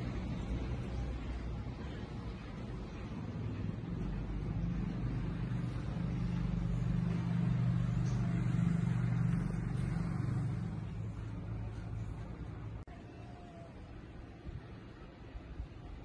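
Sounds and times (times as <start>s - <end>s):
vehicle engine humming: 0.0s - 12.9s.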